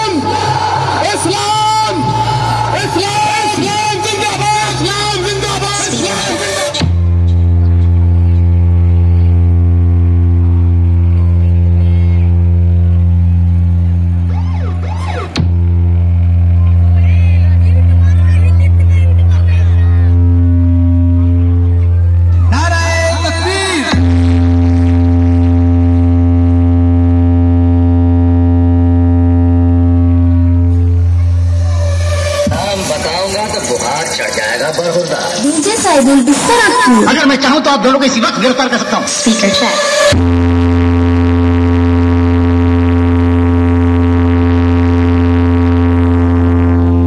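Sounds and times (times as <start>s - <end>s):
deep bass tone from loudspeakers: 0.0s - 47.0s.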